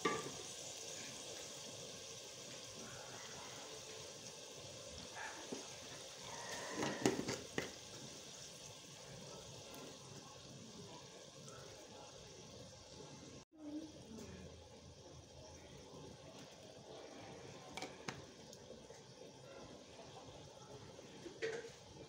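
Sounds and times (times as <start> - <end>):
stew bubbling in a pot: 0.0 - 22.0.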